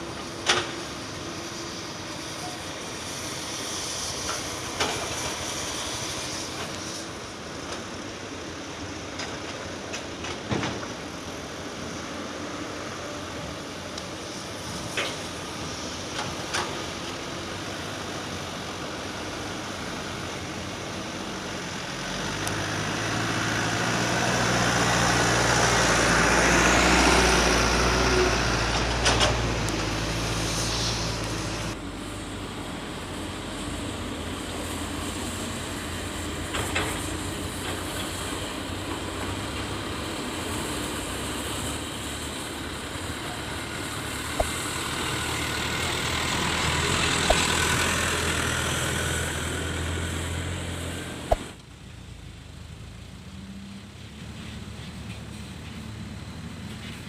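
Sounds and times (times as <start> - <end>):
excavator diesel engine working: 0.0 - 53.2.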